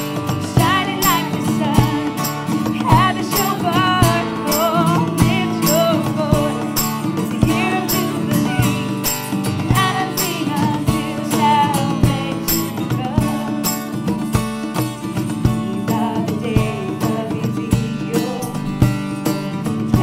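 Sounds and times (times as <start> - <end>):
jingling percussion: 0.0 - 20.0.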